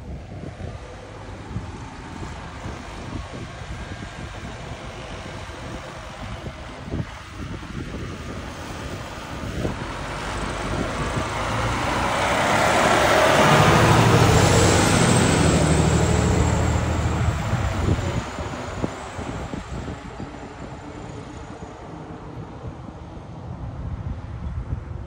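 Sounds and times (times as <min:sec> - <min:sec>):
fire engine diesel engine passing: 0:00.0 - 0:24.4.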